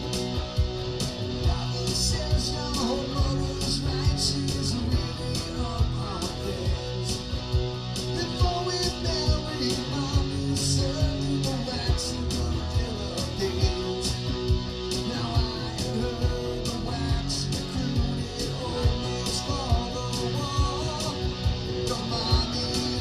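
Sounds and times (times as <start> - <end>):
steady drum beat: 0.0 - 23.0
strummed guitars: 0.0 - 23.0.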